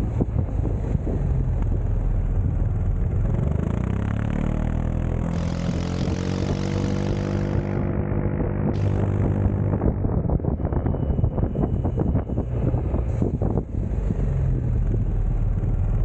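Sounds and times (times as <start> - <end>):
rush of riding wind: 0.0 - 16.0
scooter engine running: 1.3 - 16.0.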